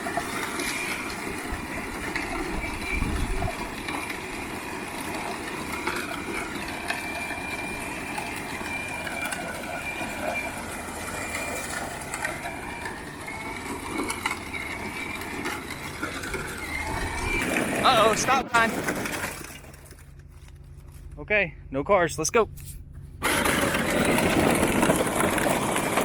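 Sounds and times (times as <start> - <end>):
toy tractor wheels rumbling: 0.0 - 21.2, 22.9 - 26.0
faint constant whine: 0.0 - 26.0.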